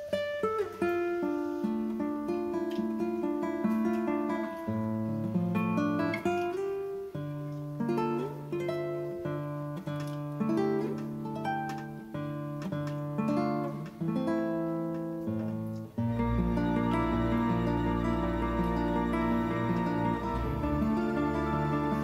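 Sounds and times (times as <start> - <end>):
plucked acoustic guitar melody: 0.0 - 22.0.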